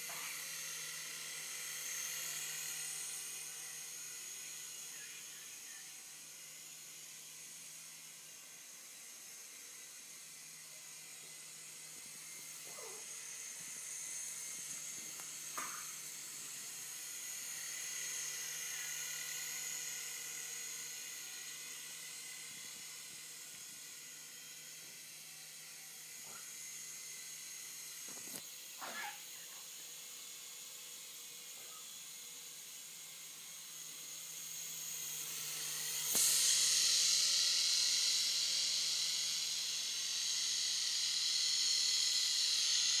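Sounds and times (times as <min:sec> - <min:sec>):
toy helicopter rotors whining: 0:00.0 - 0:43.0.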